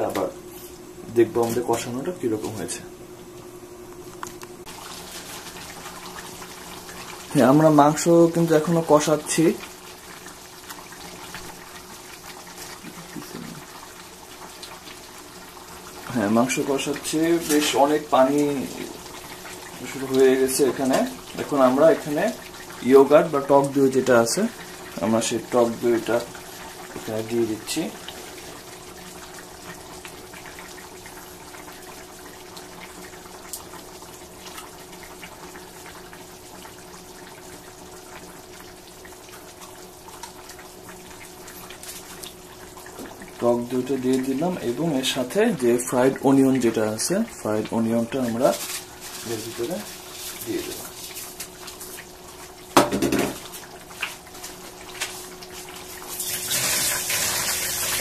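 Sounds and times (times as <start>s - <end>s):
curry bubbling and sizzling in pan: 3.3s - 58.0s.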